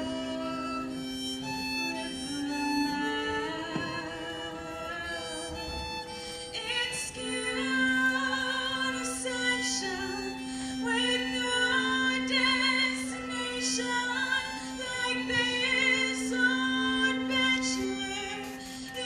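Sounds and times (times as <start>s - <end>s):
violin and viola: 0.0s - 19.0s
woman singing with vibrato: 0.0s - 19.0s.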